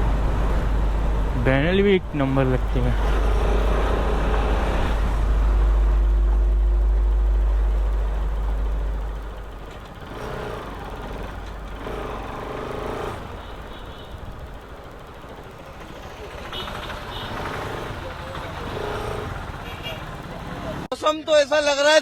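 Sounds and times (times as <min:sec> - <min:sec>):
vehicles passing: 0:00.0 - 0:20.9.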